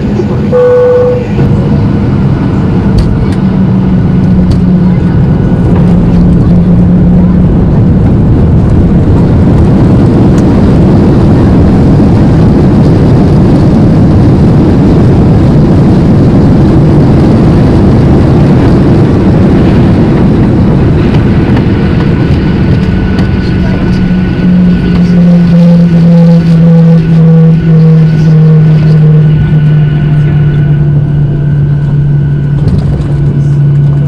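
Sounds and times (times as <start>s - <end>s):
airplane cabin airflow and engines: 0.0s - 34.0s
low hum: 0.0s - 34.0s.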